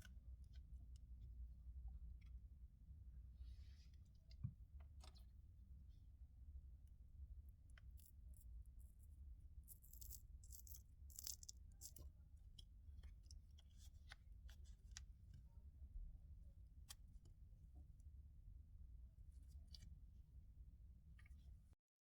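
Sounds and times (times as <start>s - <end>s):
low steady hum: 0.0s - 21.8s.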